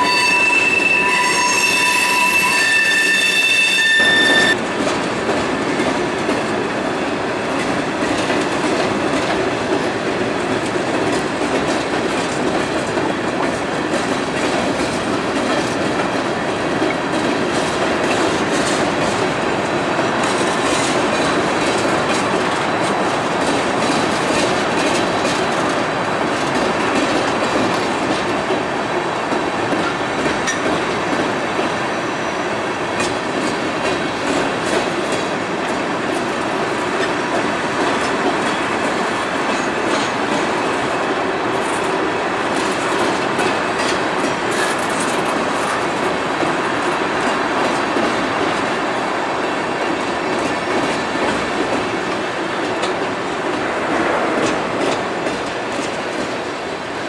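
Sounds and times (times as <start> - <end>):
freight train rolling over bridge: 0.0 - 57.0.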